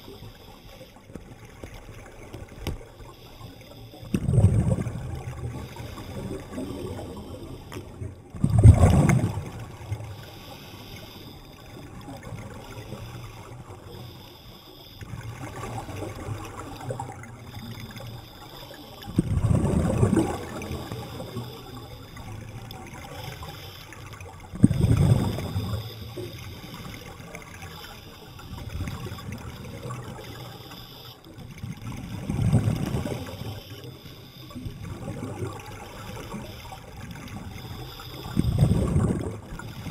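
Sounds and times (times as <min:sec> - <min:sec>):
steady water noise: 0:00.0 - 0:39.9
underwater exhaled bubbles rushing: 0:01.0 - 0:14.2, 0:15.0 - 0:39.9.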